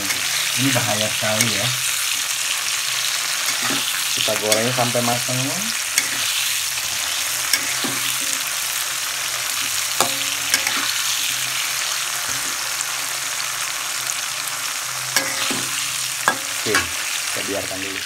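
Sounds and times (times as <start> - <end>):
chilies sizzling in oil: 0.0 - 18.0.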